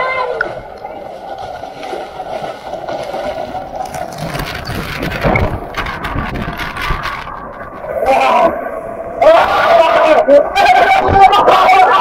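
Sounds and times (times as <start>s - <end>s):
water splashing onto camera: 0.0s - 12.0s.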